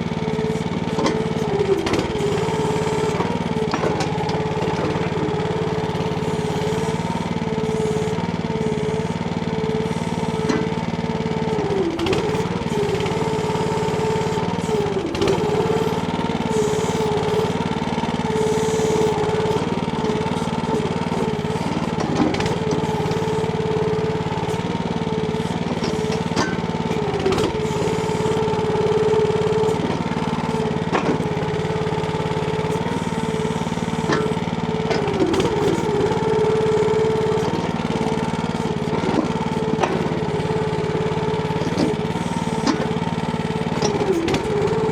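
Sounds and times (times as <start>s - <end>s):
small engine whining: 0.0s - 44.9s.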